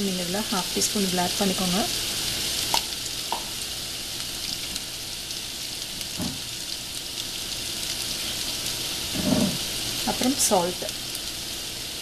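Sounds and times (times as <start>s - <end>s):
oil sizzling in frying pan: 0.0s - 12.0s.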